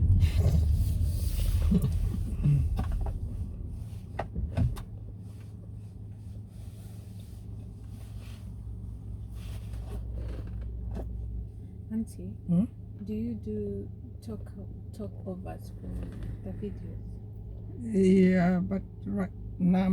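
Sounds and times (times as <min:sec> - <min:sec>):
car road rumble: 0:00.0 - 0:19.9
low car hum: 0:00.0 - 0:19.9.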